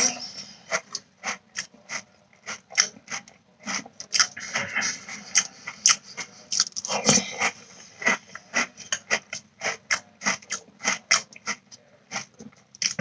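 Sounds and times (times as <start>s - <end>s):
person chewing crunchy cereal: 0.0s - 13.0s.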